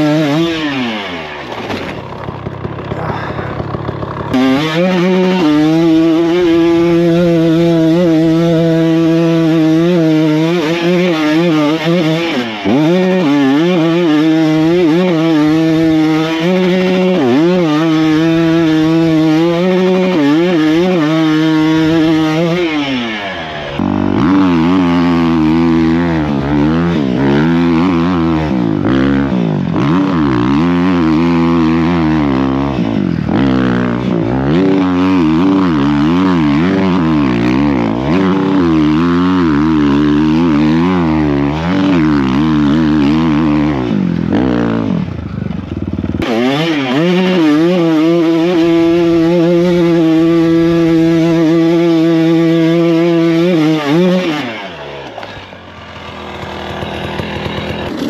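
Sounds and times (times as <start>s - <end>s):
motorcycle engine revving hard: 0.0s - 58.0s
motorcycle with lower rougher note: 0.0s - 58.0s.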